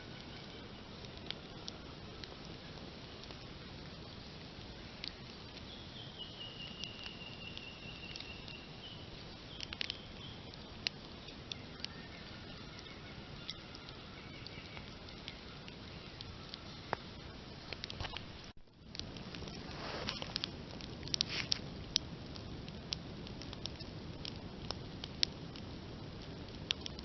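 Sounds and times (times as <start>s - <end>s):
campfire crackling and popping: 0.0s - 27.0s
low rush of flame: 0.0s - 27.0s.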